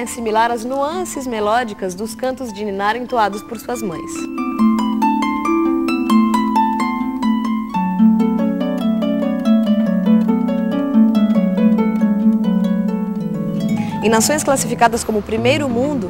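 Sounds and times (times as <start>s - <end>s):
harp plucked notes: 0.0s - 16.0s.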